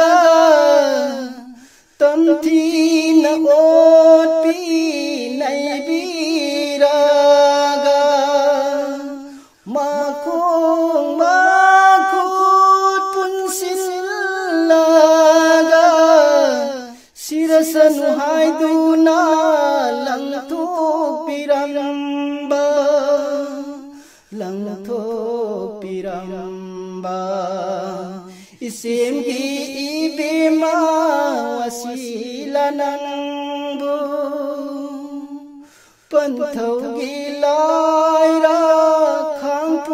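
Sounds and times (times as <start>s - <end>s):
person singing unaccompanied: 0.0s - 39.9s.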